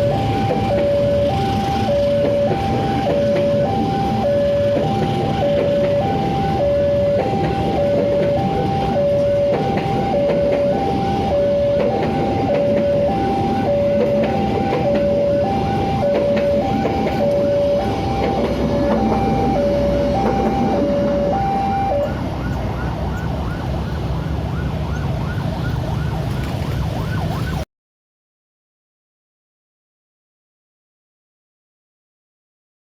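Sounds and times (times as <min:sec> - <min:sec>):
traffic noise: 0:00.0 - 0:27.6
ambulance two-tone siren: 0:00.0 - 0:27.7.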